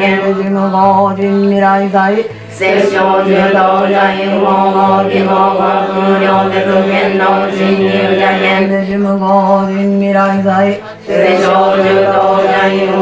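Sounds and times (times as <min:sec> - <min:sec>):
voices chanting in unison: 0:00.0 - 0:13.0.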